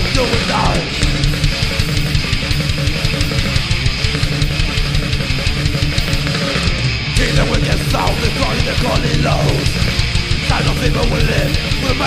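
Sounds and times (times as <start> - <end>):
distorted electric guitar riffing: 0.0 - 12.0
rapid drums: 0.0 - 12.0.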